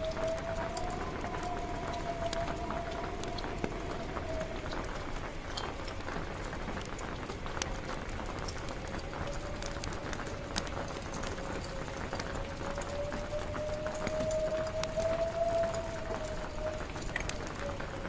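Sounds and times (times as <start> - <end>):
howling wind: 0.0 - 18.0
rain falling on a tent: 0.0 - 18.0.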